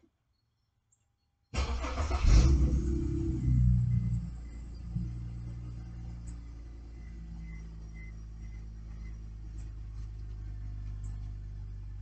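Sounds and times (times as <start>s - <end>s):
car engine idling: 1.6s - 12.0s.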